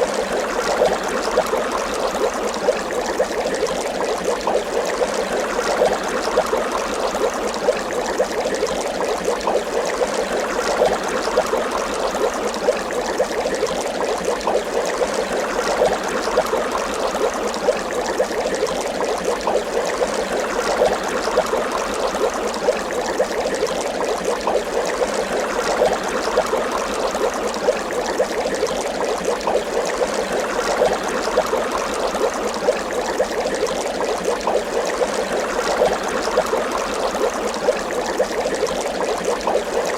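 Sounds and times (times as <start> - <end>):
water bubbling: 0.0 - 39.9.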